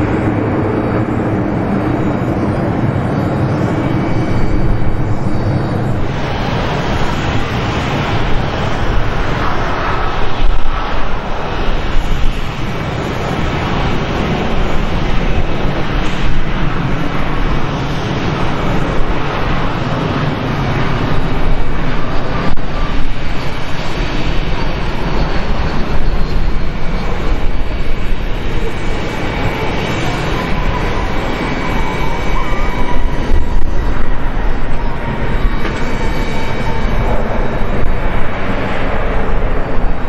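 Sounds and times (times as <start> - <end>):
jet airliner rumbling on approach: 0.0 - 40.0.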